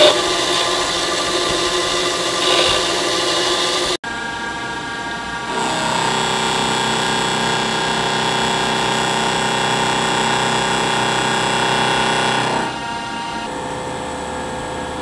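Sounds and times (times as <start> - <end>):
machine hum: 0.0 - 15.0
milling cutter high whine: 0.0 - 15.0.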